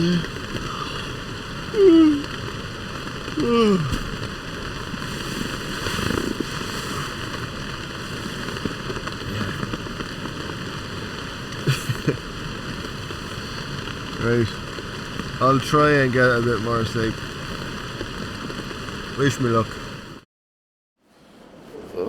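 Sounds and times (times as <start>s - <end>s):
heavy rain on a tent: 0.0s - 20.2s.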